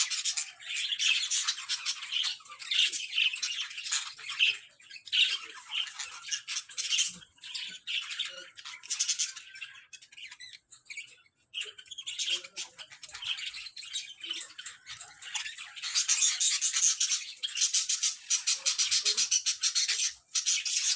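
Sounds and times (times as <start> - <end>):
budgerigar chattering and warbling: 0.0 - 20.9.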